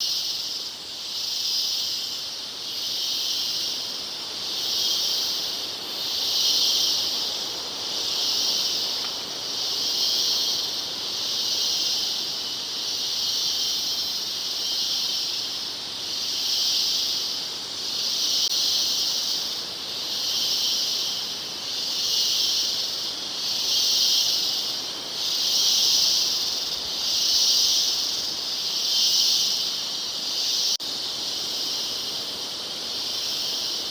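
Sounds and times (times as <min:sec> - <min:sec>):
insect chorus pulsing buzz: 0:00.0 - 0:33.9.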